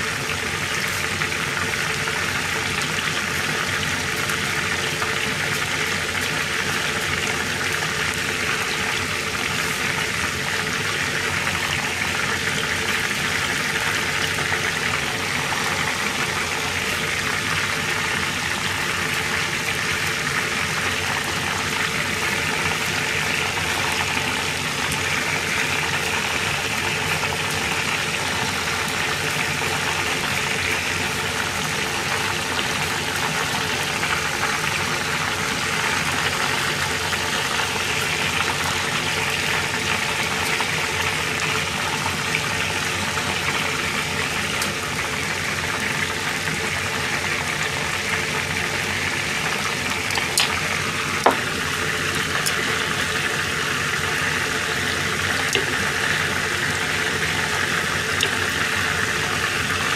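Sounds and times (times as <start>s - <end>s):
oil deep-frying sizzle: 0.0s - 59.9s.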